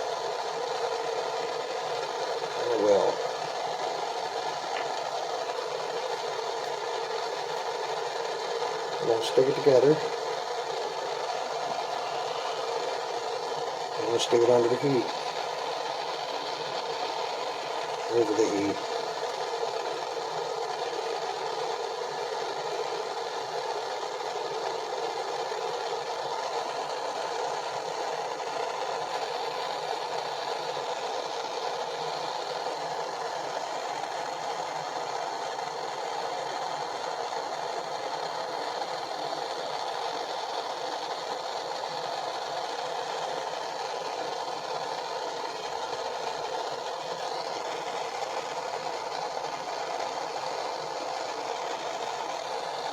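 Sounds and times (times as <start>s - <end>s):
propane torch hissing: 0.0s - 52.9s.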